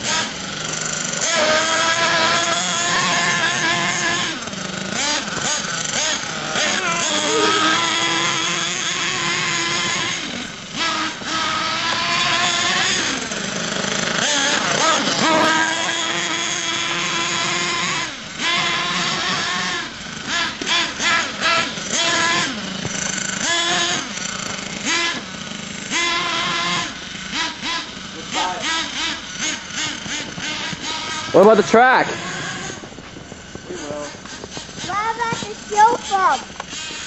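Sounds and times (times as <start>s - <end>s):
rc truck engine revving: 0.0s - 37.0s.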